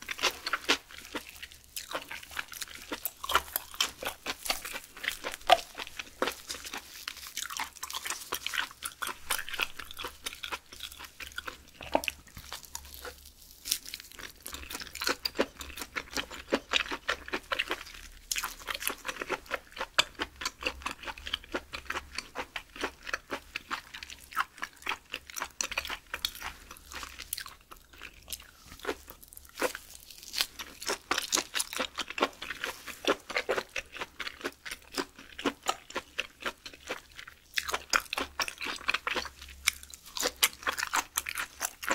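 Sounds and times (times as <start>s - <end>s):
chewing with mouth clicks: 0.0s - 41.9s.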